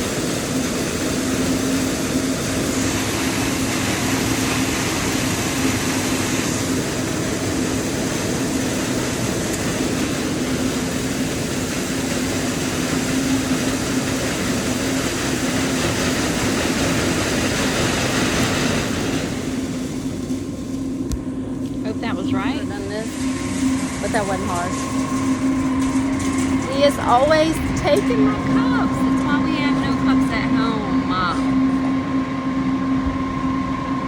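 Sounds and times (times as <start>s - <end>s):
heavy machinery rushing noise: 0.0s - 34.0s
low hum: 0.0s - 34.0s.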